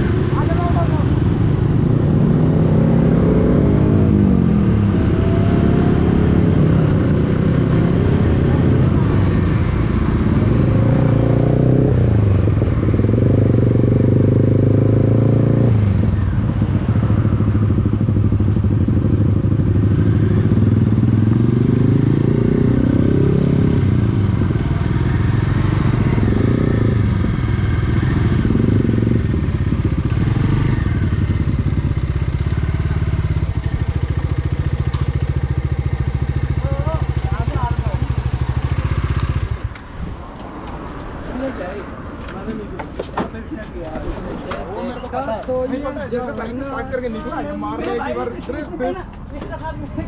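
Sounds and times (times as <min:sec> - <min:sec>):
motorcycle engine accelerating: 0:00.0 - 0:42.3.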